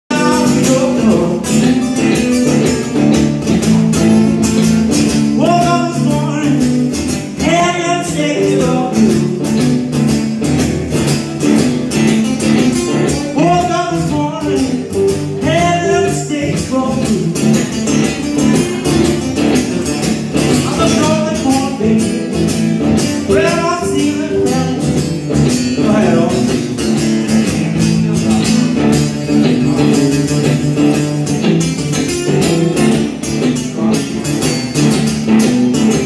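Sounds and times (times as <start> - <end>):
blues guitar rhythm: 0.0 - 36.0
slide guitar swooping: 0.1 - 36.0.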